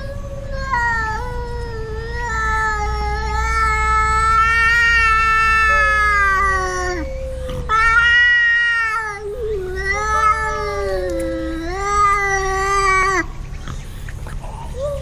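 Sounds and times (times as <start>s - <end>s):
cats yowling: 0.0s - 15.0s.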